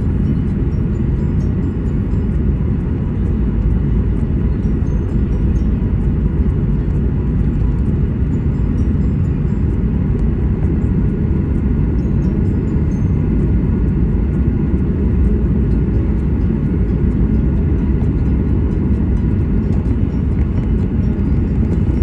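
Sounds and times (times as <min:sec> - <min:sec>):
airliner cabin engine rumble: 0:00.0 - 0:22.0
faint steady whine: 0:00.0 - 0:22.0
light rattles: 0:00.0 - 0:22.0.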